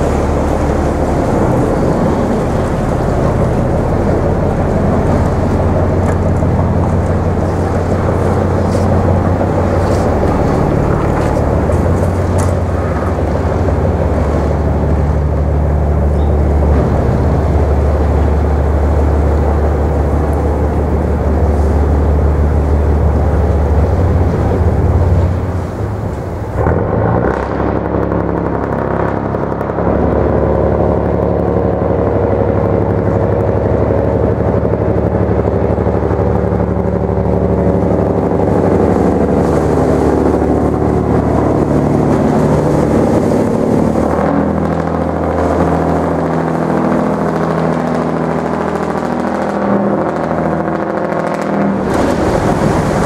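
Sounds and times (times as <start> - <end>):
boat diesel engine droning: 0.0 - 53.0.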